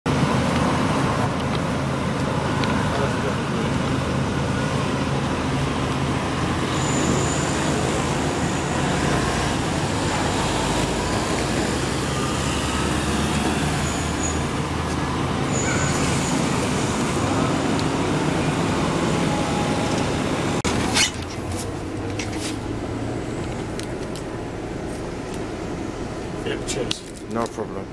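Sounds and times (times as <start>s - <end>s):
diesel engine running: 0.1s - 27.9s
road noise: 0.1s - 27.9s.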